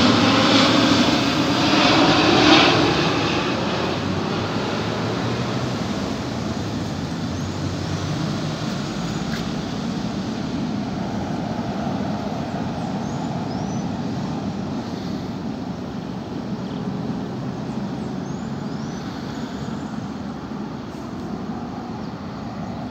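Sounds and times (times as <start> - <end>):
city traffic noise: 0.0 - 22.9
jet engines roaring: 0.0 - 22.9.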